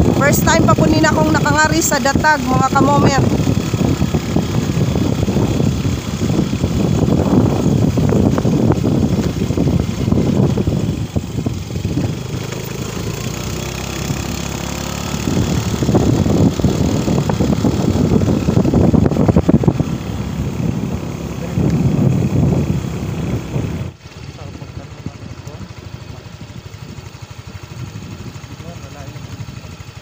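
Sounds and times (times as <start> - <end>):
motorcycle engine riding: 0.0 - 30.0.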